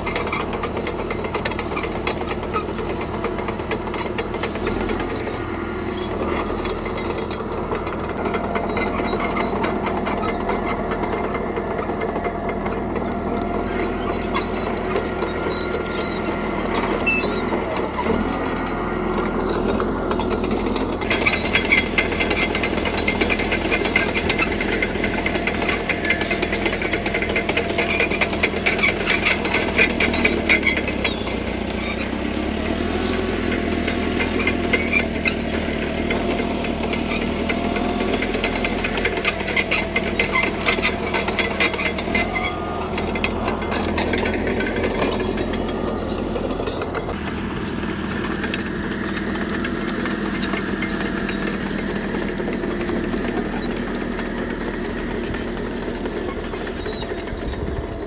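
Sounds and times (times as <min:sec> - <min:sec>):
bulldozer diesel engine running: 0:00.0 - 0:58.0
steel tracks clattering and squeaking: 0:00.0 - 0:58.0.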